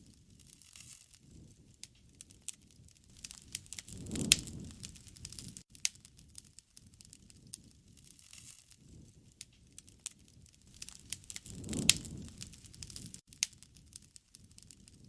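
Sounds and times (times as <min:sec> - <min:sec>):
fire pops and snaps: 0:00.0 - 0:15.0
low rush of flame: 0:01.2 - 0:15.0.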